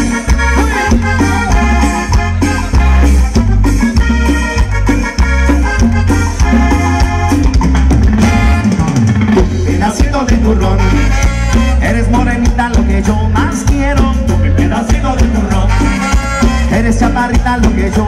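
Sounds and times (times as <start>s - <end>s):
live latin band playing: 0.0s - 18.0s.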